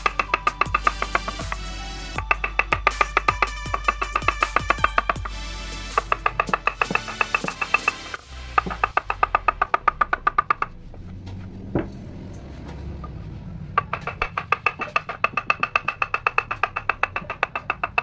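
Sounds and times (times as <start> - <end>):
wooden mallet tapping a gouge: 0.0 - 10.8, 13.8 - 18.0.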